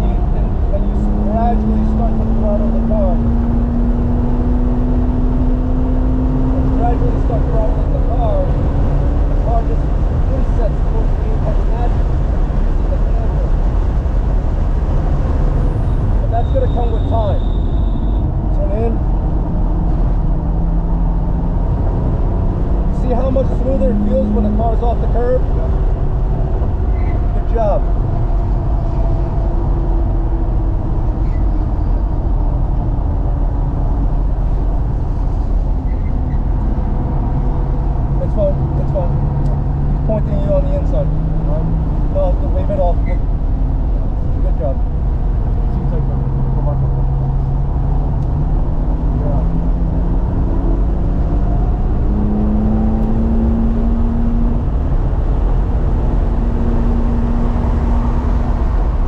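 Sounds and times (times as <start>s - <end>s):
car engine running hard: 0.0s - 59.0s
road and tyre rumble: 0.0s - 59.0s.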